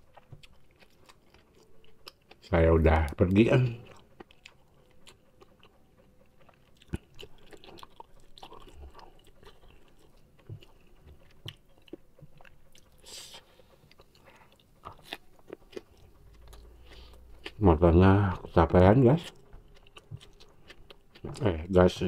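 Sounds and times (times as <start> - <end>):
close chewing with crunches: 0.0 - 21.7.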